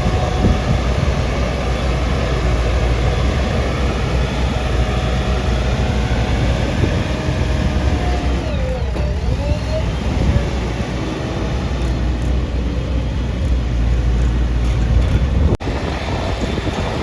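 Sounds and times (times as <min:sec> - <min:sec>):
diesel engines droning: 0:00.0 - 0:17.0.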